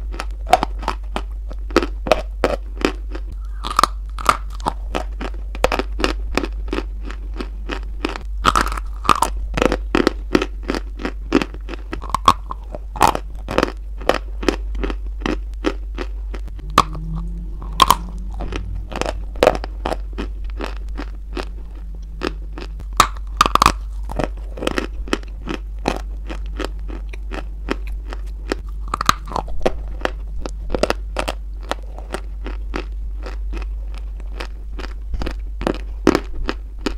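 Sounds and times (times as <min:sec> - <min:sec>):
chalk crunching while chewed: 0:00.0 - 0:36.9.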